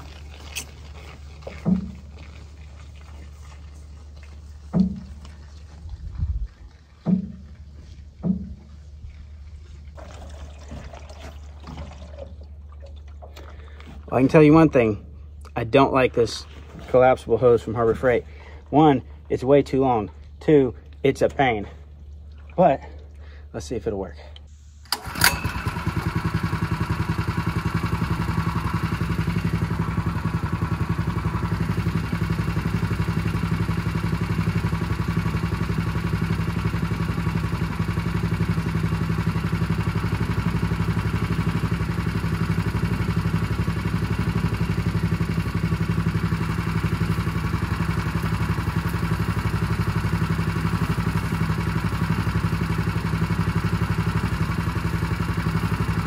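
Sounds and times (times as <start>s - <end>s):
water pump engine running: 0.0s - 56.0s.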